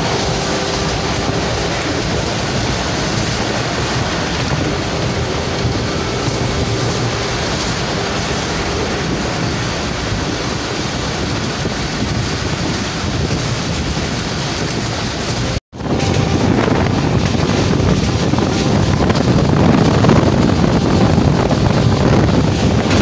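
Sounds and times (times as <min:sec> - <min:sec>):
train wheels rumbling on rail: 0:00.0 - 0:23.0
wind rushing over microphone: 0:00.0 - 0:23.0.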